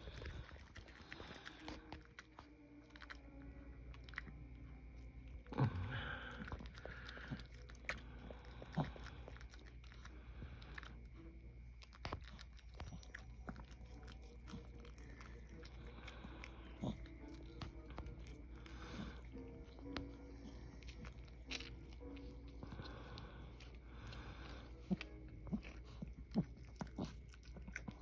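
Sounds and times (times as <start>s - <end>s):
dog licking and chewing: 0.0s - 28.0s.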